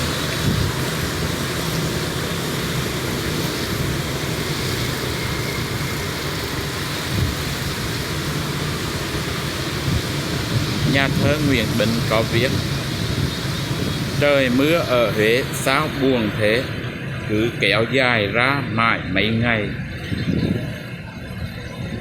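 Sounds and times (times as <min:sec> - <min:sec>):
steady rain: 0:00.0 - 0:18.7
road traffic rumble: 0:00.0 - 0:22.0.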